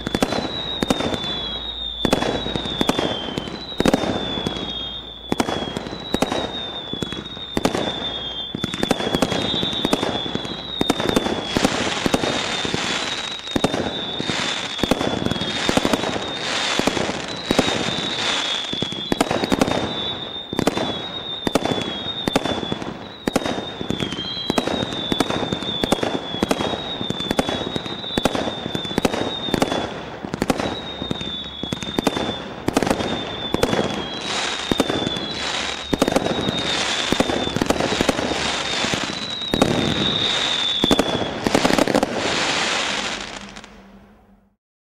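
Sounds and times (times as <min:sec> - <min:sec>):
fireworks shots and bursts: 0:00.0 - 0:43.8
high firework whistle: 0:00.0 - 0:44.6.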